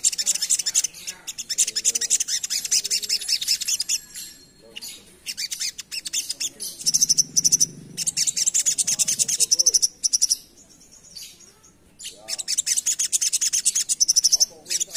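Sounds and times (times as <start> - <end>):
sunbird rapid high chattering song: 0.0 - 4.1, 4.8 - 14.9.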